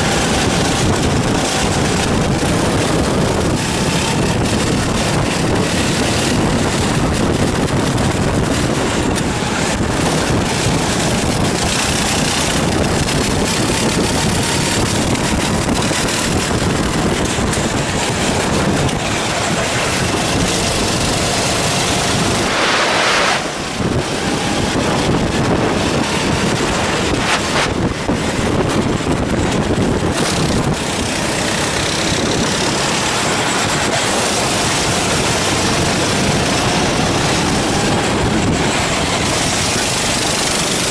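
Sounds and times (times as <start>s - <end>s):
kart engine running: 0.0s - 40.9s
wind buffeting microphone: 0.0s - 40.9s.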